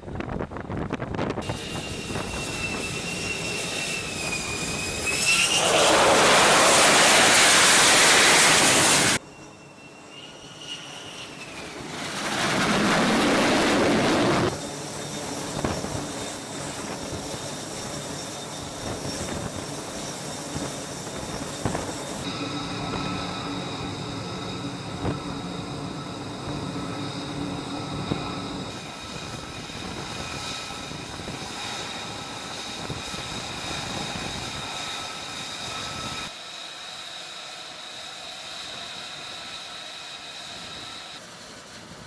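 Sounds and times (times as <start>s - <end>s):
jet engine full-power roar: 0.1s - 42.0s
jet engine whining: 0.7s - 42.0s.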